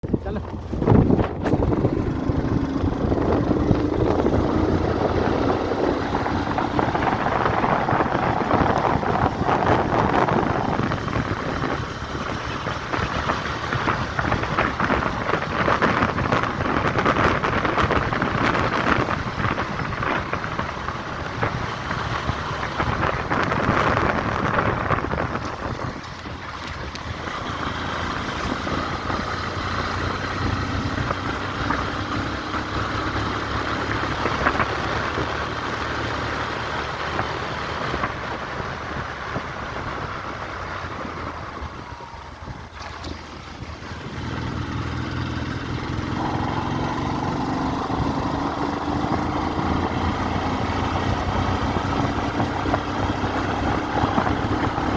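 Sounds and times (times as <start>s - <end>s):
vehicle engine and road noise: 0.0s - 54.9s
wind buffeting microphone: 0.0s - 54.9s.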